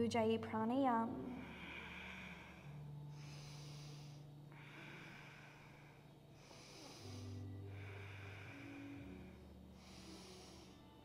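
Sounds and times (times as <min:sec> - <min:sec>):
low steady hum: 0:00.0 - 0:11.0
slow hissing breathing: 0:01.3 - 0:11.0.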